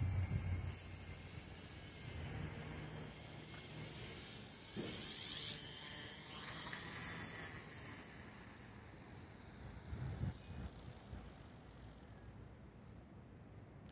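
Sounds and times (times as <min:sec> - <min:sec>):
toy helicopter motor whining: 0:00.0 - 0:12.2.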